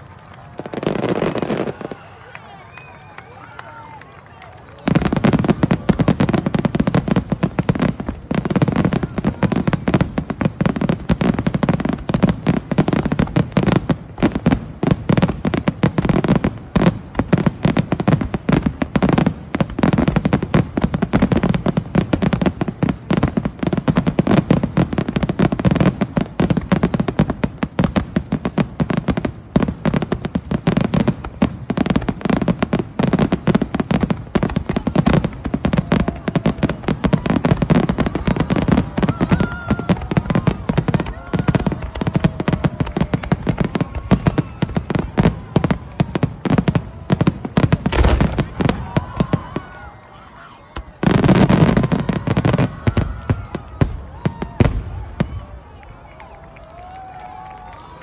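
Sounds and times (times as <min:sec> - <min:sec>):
fireworks crackling: 0:00.0 - 0:58.0
firework bursts and booms: 0:00.1 - 0:02.4, 0:04.7 - 0:49.8, 0:50.8 - 0:55.6.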